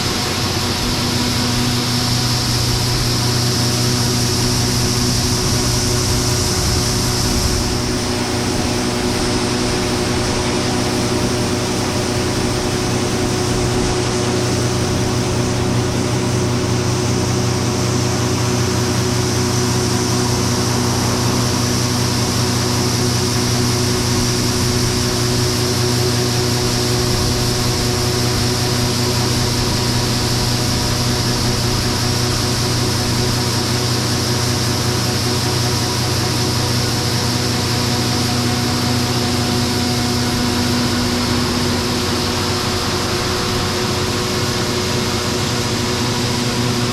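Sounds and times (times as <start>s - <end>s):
combine harvester humming: 0.0s - 46.9s.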